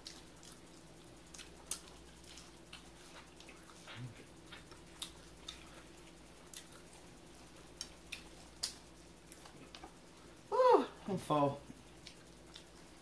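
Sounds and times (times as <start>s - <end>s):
person chewing with mouth clicks: 0.0s - 9.9s, 11.8s - 13.0s.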